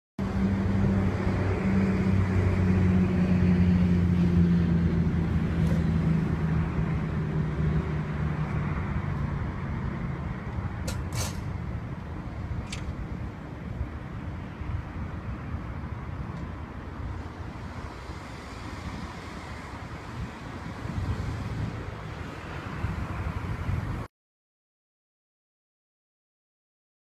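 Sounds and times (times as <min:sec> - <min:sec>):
low engine-like hum: 0:00.2 - 0:24.1
rushing noise: 0:00.2 - 0:24.1.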